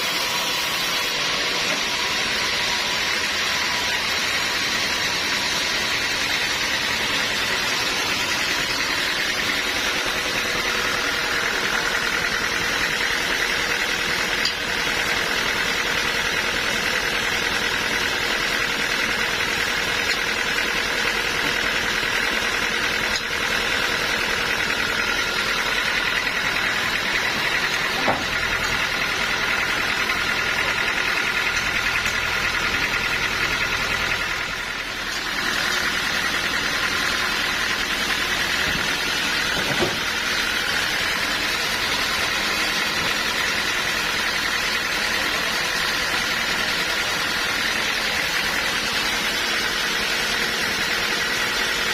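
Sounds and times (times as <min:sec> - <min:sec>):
sawmill machinery running: 0:00.0 - 0:51.9
steady saw whine: 0:00.0 - 0:51.9.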